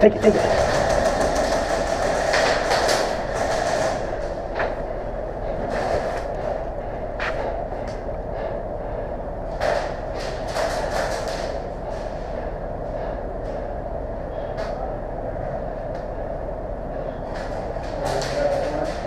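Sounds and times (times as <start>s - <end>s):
steady rumbling hum: 0.0s - 19.0s.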